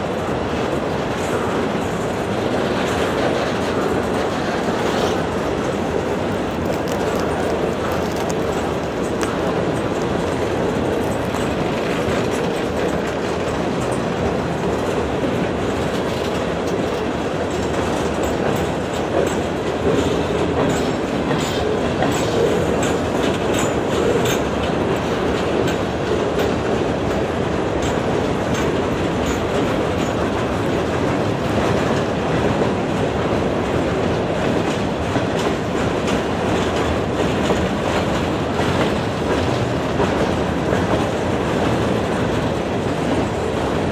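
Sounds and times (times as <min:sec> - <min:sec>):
train wheels clattering over joints: 0:00.0 - 0:43.9.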